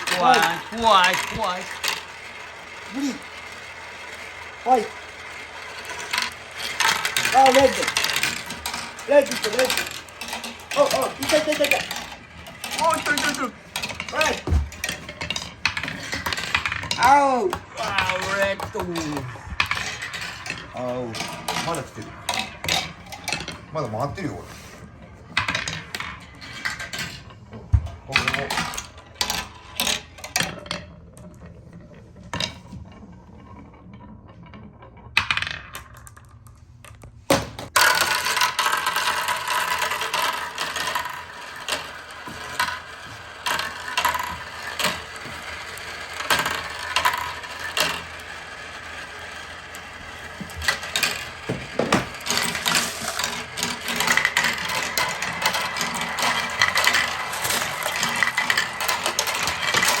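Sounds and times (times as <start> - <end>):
marbles rattling on wooden track: 0.0 - 60.0.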